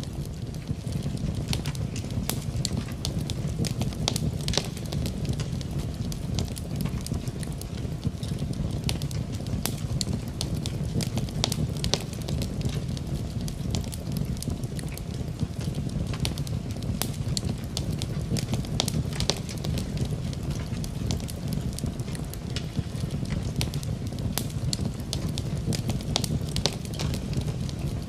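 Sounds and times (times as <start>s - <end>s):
rain: 0.0s - 28.0s
wood fire crackling and popping: 0.0s - 28.0s.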